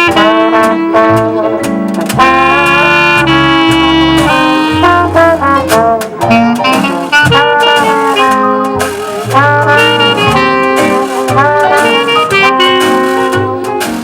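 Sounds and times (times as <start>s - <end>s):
brass horns playing melody: 0.0s - 14.0s
low bass line: 0.0s - 14.0s
sharp percussive strikes: 1.6s - 14.0s.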